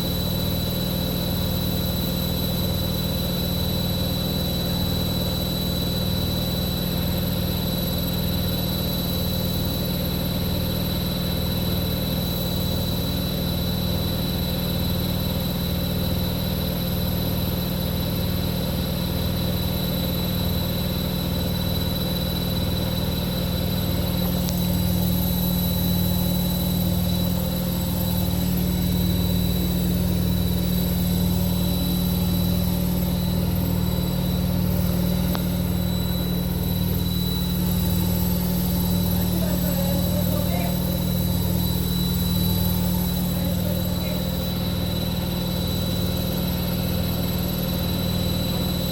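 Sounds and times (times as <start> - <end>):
washing machine spinning: 0.0 - 48.9.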